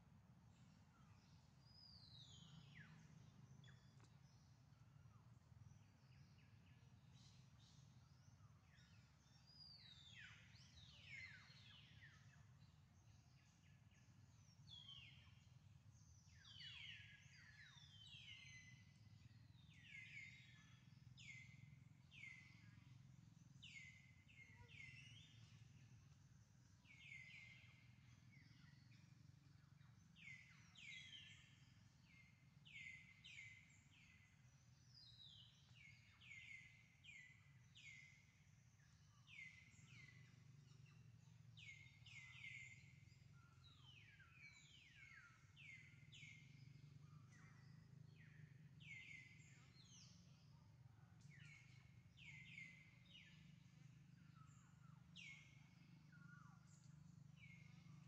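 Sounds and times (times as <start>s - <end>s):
faint bird chirps: 0.0s - 58.0s
low steady hum: 0.0s - 58.0s.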